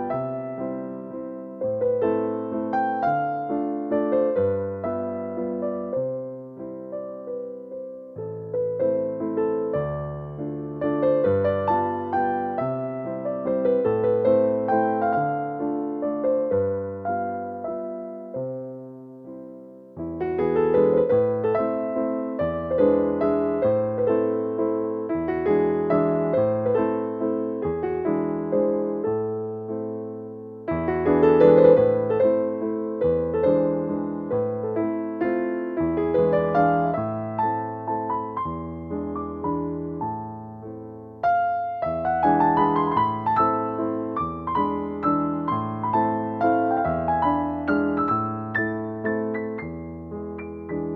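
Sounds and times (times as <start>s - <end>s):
gentle solo piano: 0.0s - 50.9s.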